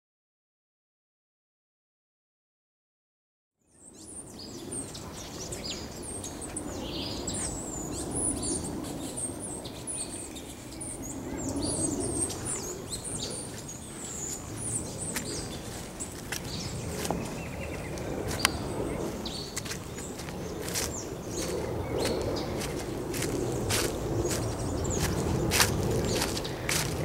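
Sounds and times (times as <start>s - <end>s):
birds chirping and calling: 3.9s - 27.0s.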